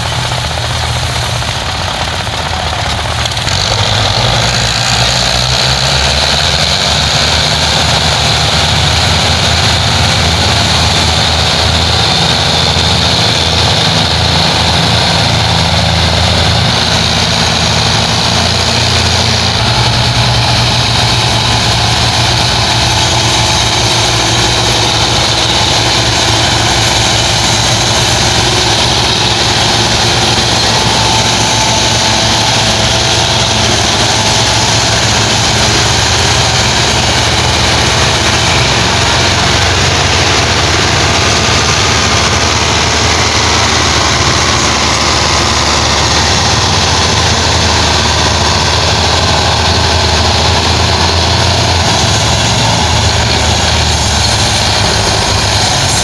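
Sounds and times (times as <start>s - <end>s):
diesel tractor engines droning: 0.0s - 56.0s.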